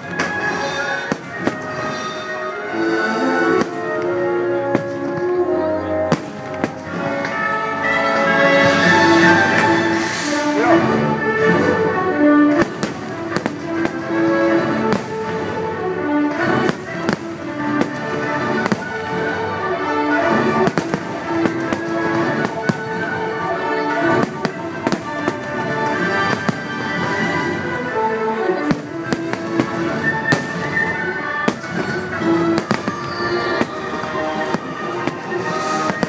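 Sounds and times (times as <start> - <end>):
fireworks bursting: 0.0 - 7.7, 8.5 - 10.5, 11.4 - 36.0
fireworks show music: 0.0 - 36.0.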